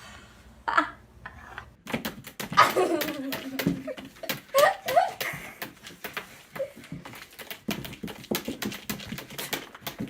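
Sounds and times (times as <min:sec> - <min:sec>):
sharp clicks and taps: 0:01.8 - 0:10.0.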